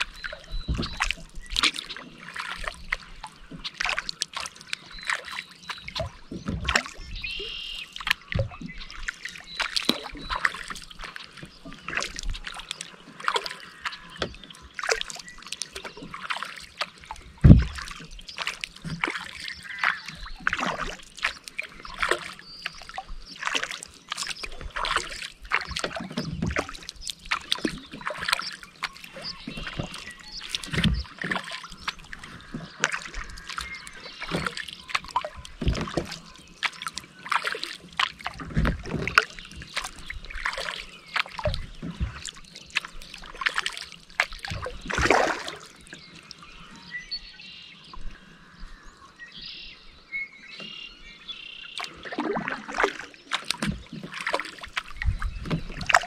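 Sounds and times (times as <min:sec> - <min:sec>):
water dripping and splashing: 0:00.0 - 0:46.7, 0:51.7 - 0:56.0
paddle blades dipping in water: 0:00.0 - 0:49.6, 0:50.6 - 0:56.0.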